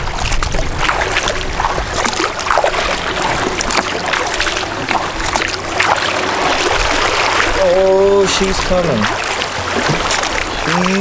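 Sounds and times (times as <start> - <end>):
kayak paddle splashes: 0.0 - 11.0
water washing against hull: 0.0 - 11.0
wind rumbling on microphone: 0.0 - 11.0.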